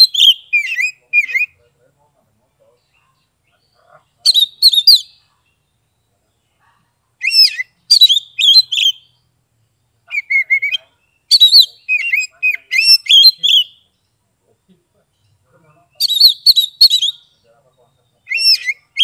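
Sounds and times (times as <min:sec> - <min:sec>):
magpie-robin singing: 0:00.0 - 0:01.8, 0:02.5 - 0:19.0.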